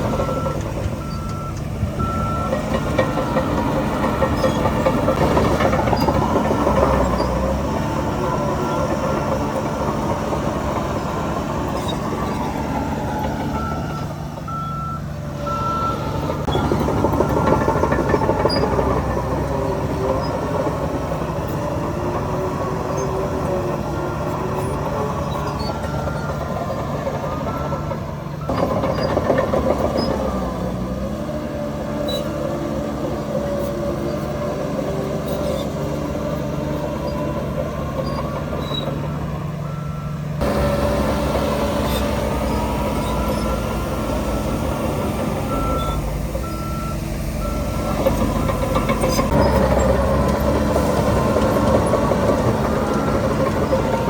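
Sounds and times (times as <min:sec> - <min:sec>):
reversing alarm beeping: 0:00.0 - 0:19.7, 0:24.2 - 0:30.4, 0:35.3 - 0:54.0
heavy diesel machinery running: 0:00.0 - 0:54.0.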